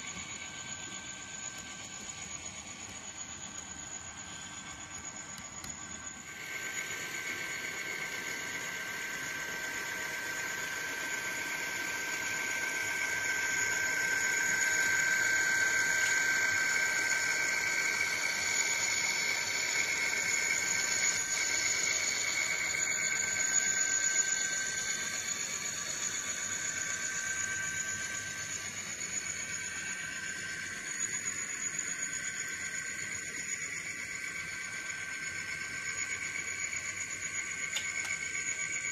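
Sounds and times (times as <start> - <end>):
model locomotive high whine: 0.0 - 38.9.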